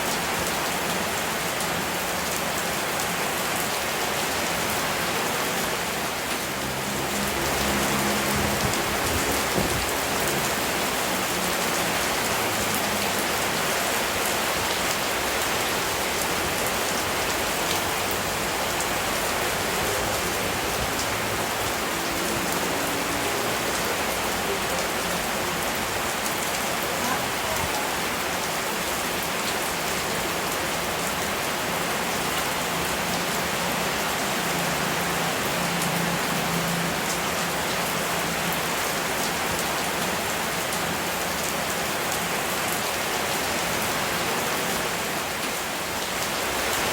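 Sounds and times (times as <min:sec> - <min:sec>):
rain falling on a surface: 0:00.0 - 0:46.9.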